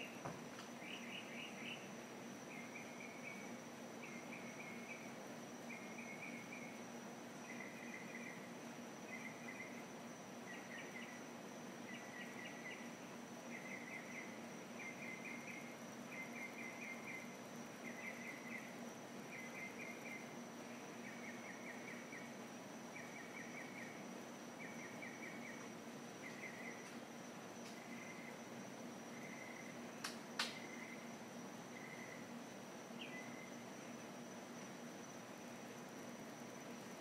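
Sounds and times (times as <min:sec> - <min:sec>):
steady high-pitched whine: 0:00.0 - 0:37.0.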